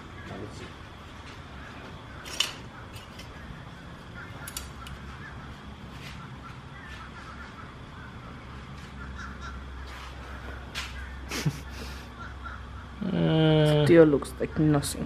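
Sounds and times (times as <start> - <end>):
steady low rumble: 0.0 - 13.0
faint bird calls: 1.5 - 13.9.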